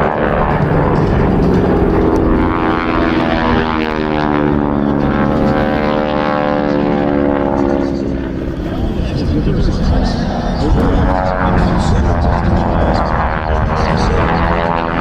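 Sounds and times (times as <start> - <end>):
propeller aircraft engines in flight: 0.0 - 15.0.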